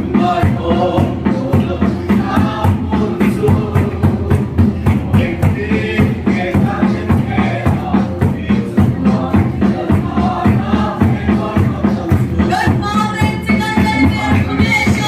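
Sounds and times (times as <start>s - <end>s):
driving drum beat: 0.0s - 15.0s
group singing a hymn: 0.0s - 15.0s.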